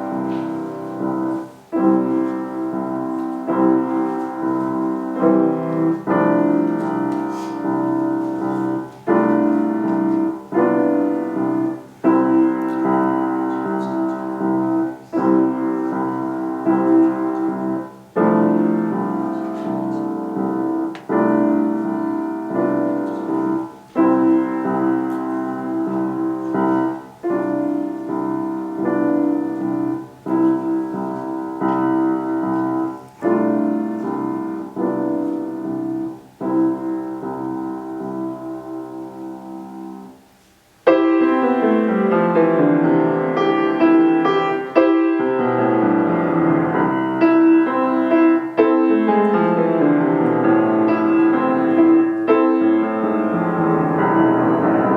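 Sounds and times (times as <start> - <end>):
slow solo piano chords: 0.0 - 54.9.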